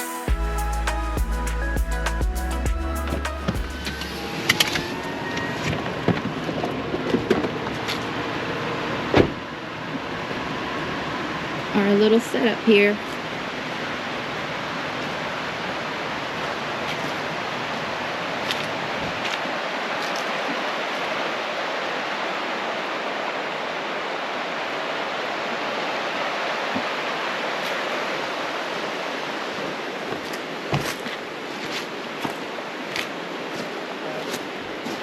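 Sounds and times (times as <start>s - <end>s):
waterfall and rapids roaring: 0.0s - 35.0s.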